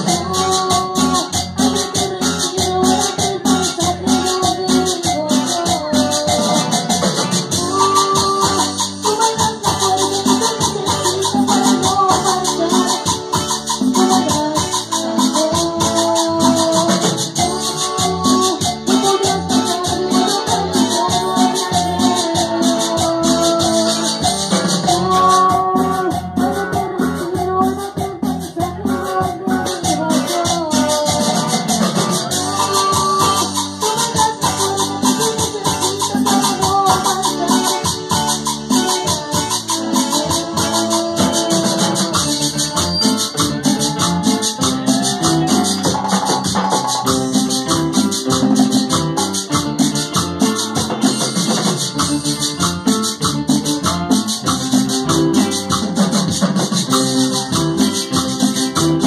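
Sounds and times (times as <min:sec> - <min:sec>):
drums: 0:00.0 - 0:59.0
electronic keyboard melody: 0:00.0 - 0:59.0.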